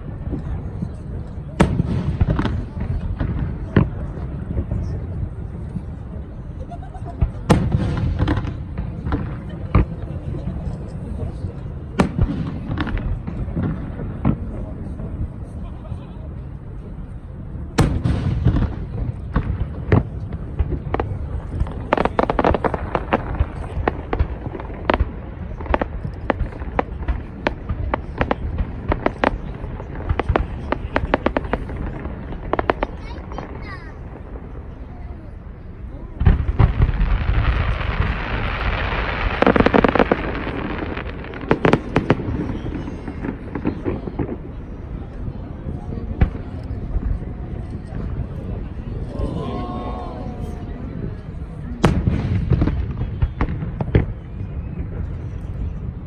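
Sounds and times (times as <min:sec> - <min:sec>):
fireworks bursting with bangs: 0:00.0 - 0:49.2, 0:50.4 - 0:56.0.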